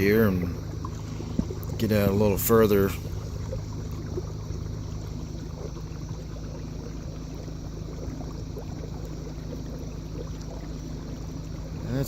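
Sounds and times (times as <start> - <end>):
steady low hum: 0.0 - 12.0
water lapping along kayak hull: 0.0 - 12.0.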